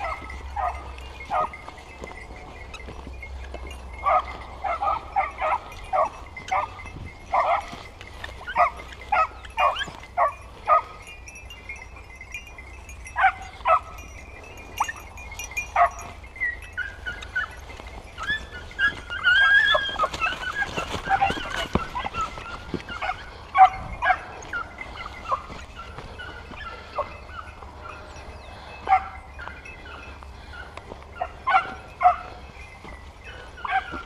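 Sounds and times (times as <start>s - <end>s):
puppies yelping: 0.0s - 34.0s.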